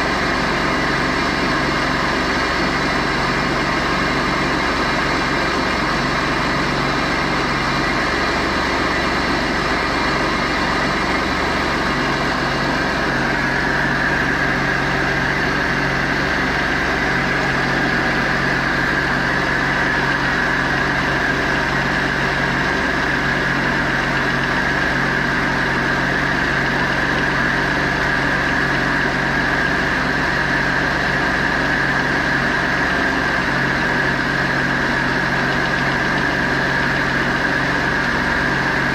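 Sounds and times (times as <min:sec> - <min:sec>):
car engine idling: 0:00.0 - 0:38.9
engine whine: 0:00.0 - 0:38.9.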